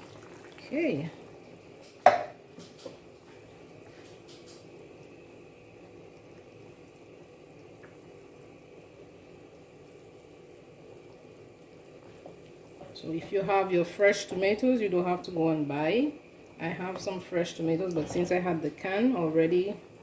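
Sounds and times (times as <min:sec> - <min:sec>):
sauce simmering in pot: 0:00.0 - 0:20.0.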